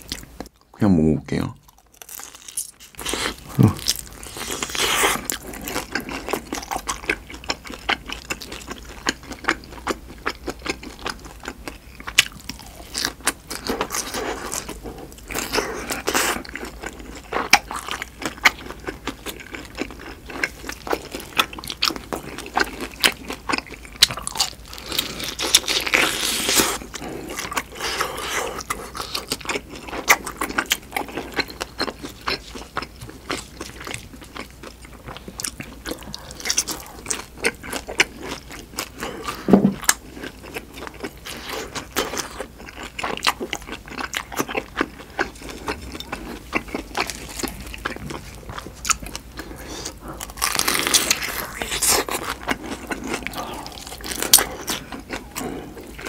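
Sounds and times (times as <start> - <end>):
person chewing food: 0.0 - 0.8, 1.6 - 56.0.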